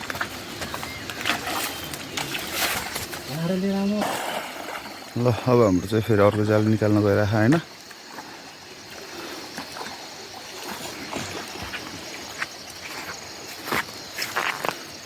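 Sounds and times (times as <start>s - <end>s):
flowing water: 0.0s - 15.0s
footsteps and splashes: 0.0s - 15.0s
high insect drone: 0.0s - 15.0s.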